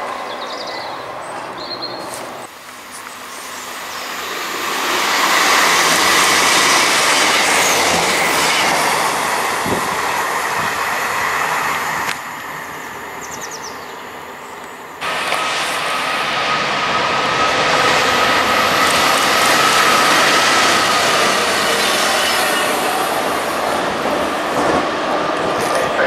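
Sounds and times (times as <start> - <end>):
diesel locomotive engine whining: 0.0 - 26.0
passing train noise: 0.0 - 26.0.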